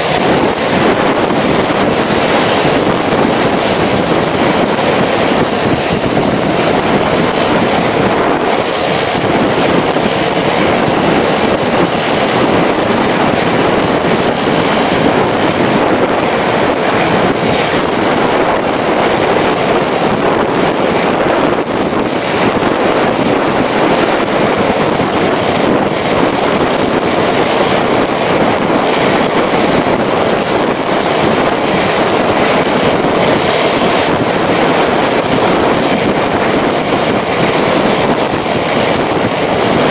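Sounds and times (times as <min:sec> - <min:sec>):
road noise: 0:00.0 - 0:39.9
wind on microphone: 0:00.0 - 0:39.9
wind rushing: 0:00.0 - 0:39.9.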